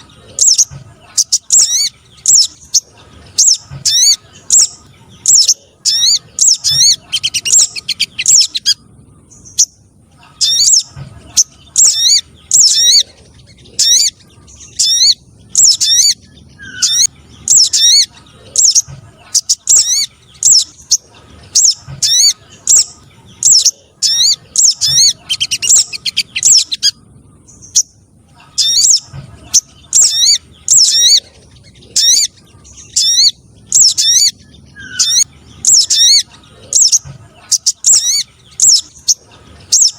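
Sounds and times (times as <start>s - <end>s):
recorded bird chirping: 0.0s - 39.9s.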